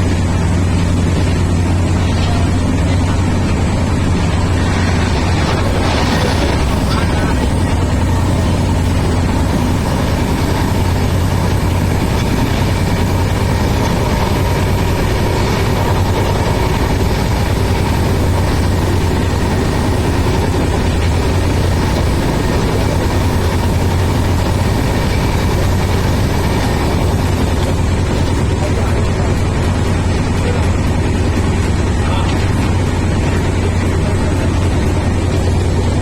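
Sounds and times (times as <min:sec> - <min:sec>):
train rumbling hum: 0:00.0 - 0:36.0.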